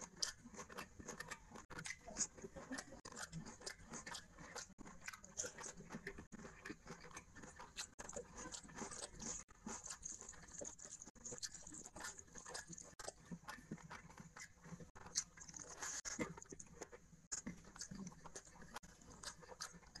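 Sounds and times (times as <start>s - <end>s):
chewing and mouth noises: 0.0s - 20.0s
fingers mixing rice on plate: 0.0s - 20.0s.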